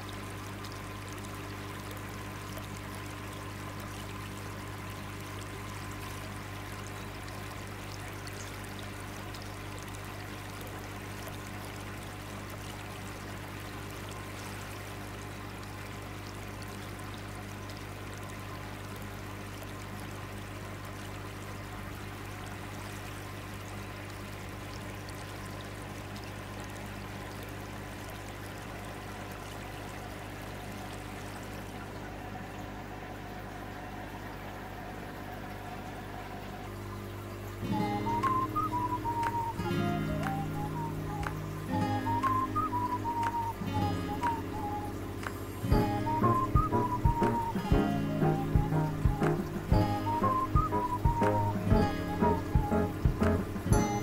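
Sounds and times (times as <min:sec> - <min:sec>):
water trickling in aquarium: 0:00.0 - 0:54.0.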